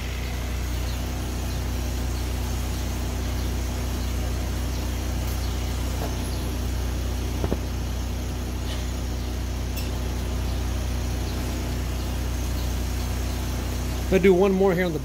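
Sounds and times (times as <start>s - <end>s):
welder generator engine idling: 0.0s - 15.0s.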